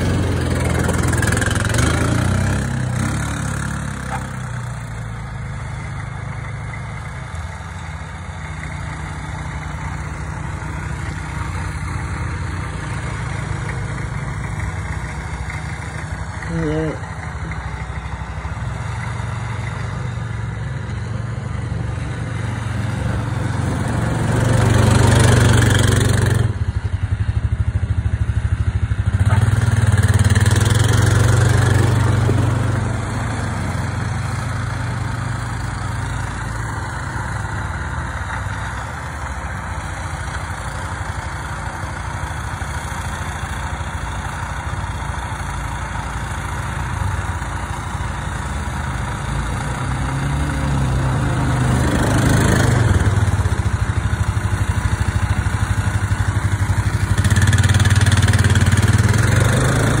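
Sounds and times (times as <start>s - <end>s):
quad bike engine idling: 0.0s - 60.0s.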